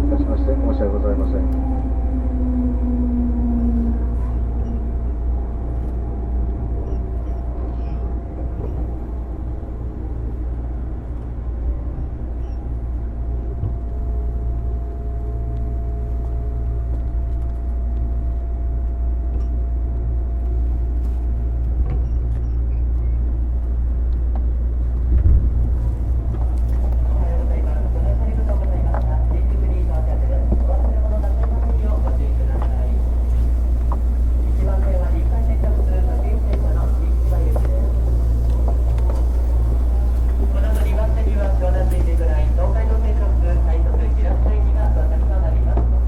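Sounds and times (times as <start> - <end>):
train wheels and motors rumbling: 0.0 - 46.0.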